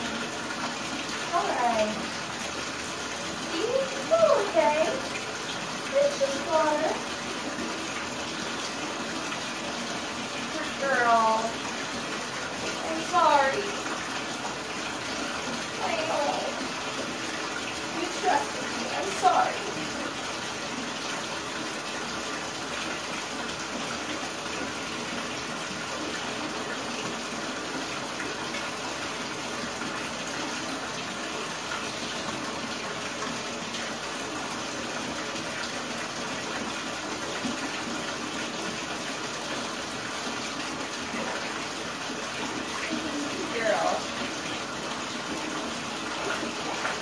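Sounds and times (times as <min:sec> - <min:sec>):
water running from tap into tub: 0:00.0 - 0:47.0.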